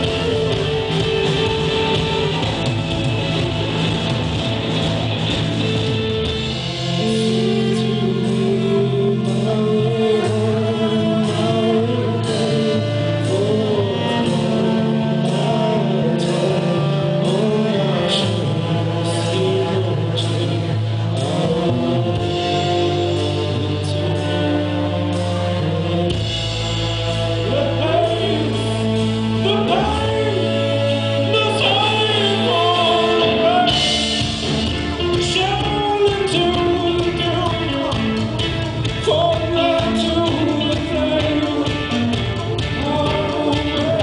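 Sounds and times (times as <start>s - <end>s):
drums: 0.0s - 44.0s
electric guitar: 0.0s - 44.0s
violin: 0.0s - 44.0s
man singing: 6.5s - 26.3s, 27.4s - 44.0s.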